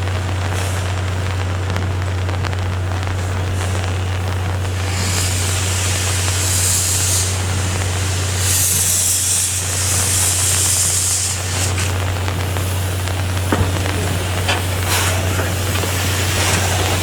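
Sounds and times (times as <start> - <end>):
steam locomotive hissing: 2.8 - 17.0.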